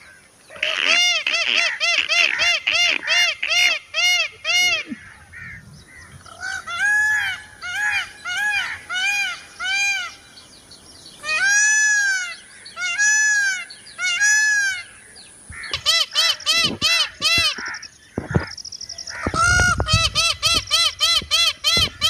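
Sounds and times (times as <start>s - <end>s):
peacock calling: 0.0s - 22.0s.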